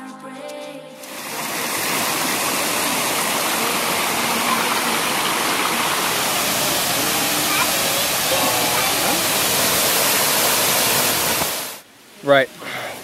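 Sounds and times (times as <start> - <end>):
waterfall rushing: 1.0 - 13.0.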